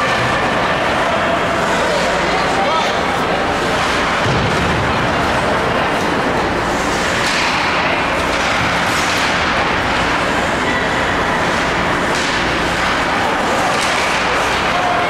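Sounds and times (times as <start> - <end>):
spectator chatter: 0.0 - 15.0.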